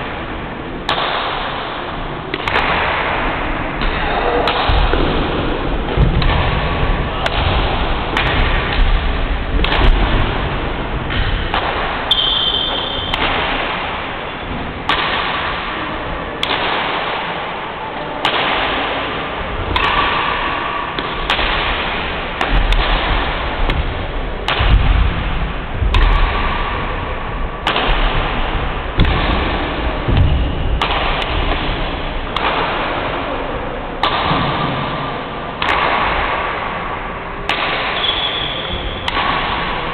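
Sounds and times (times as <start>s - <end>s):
rackets striking shuttlecock: 0.8s - 15.8s, 16.4s - 17.6s, 18.2s - 33.4s, 34.0s - 39.9s.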